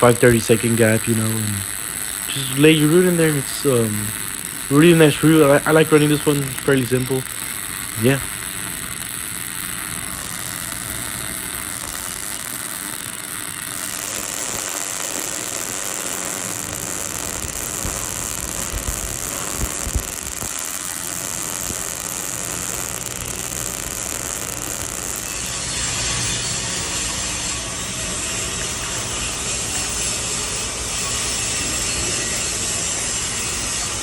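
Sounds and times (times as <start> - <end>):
welding arc running: 0.0 - 34.0.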